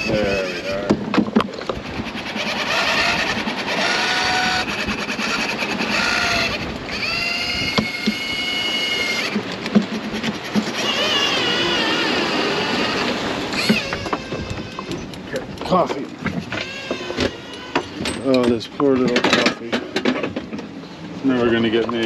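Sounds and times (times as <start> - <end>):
sailboat gear creaking and squealing: 0.0 - 22.0.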